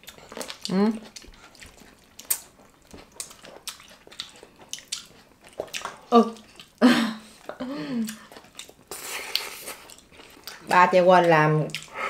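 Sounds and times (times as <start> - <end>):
people chewing food: 0.0 - 12.0
mouth clicks and smacks: 0.3 - 10.8, 11.6 - 12.0.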